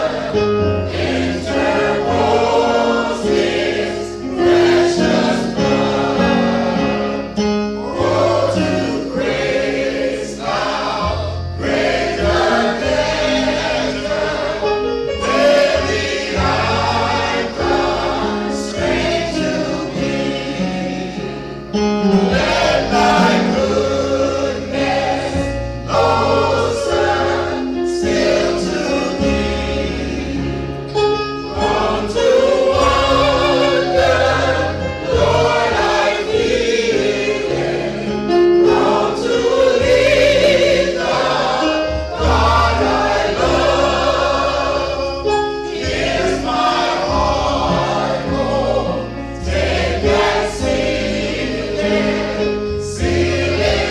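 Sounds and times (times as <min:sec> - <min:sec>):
choir singing gospel: 0:00.0 - 0:53.9
instrumental accompaniment: 0:00.0 - 0:53.9.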